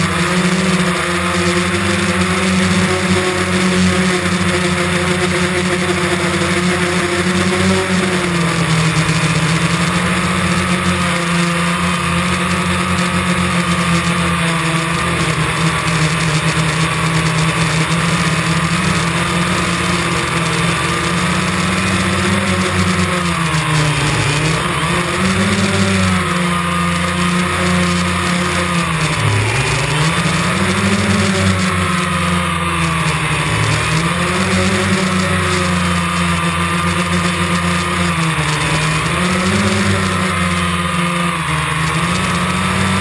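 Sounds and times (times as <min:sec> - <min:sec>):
drone propellers whirring: 0:00.0 - 0:43.0.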